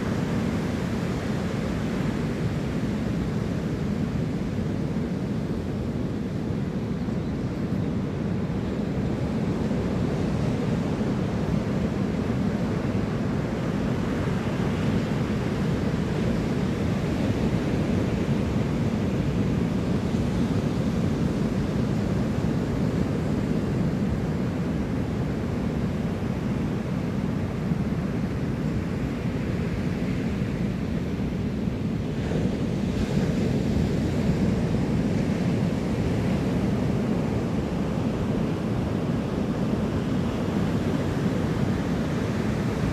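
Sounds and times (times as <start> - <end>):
wind rumble on microphone: 0.0 - 42.9.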